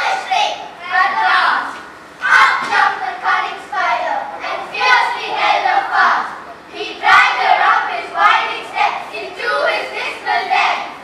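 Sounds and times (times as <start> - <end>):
children speaking: 0.0 - 11.0.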